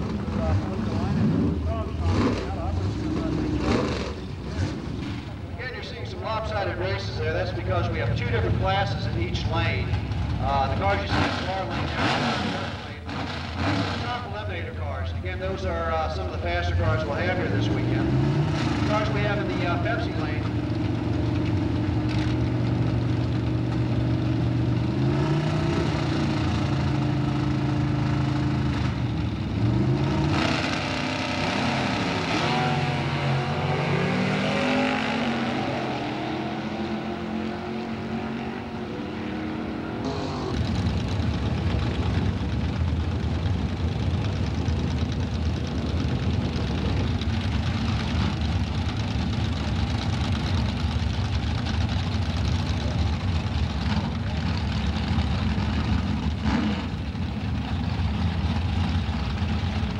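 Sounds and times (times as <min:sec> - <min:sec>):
cars idling roughly: 0:00.0 - 0:33.6, 0:37.9 - 0:59.9
drag race cars accelerating: 0:00.0 - 0:59.9.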